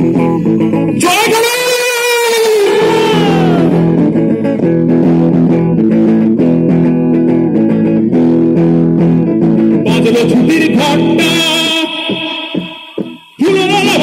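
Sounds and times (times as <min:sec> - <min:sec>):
electric guitar through amplifiers: 0:00.0 - 0:14.0.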